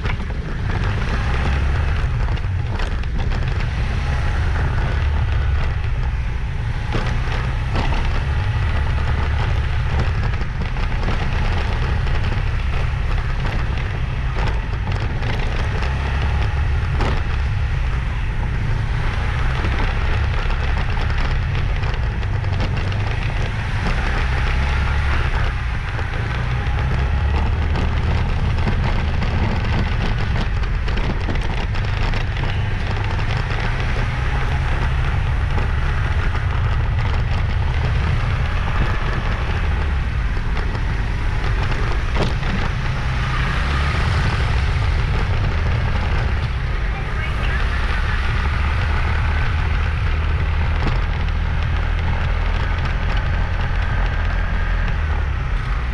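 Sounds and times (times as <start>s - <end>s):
road and engine noise: 0.0s - 55.9s
wind buffeting microphone: 0.0s - 55.9s.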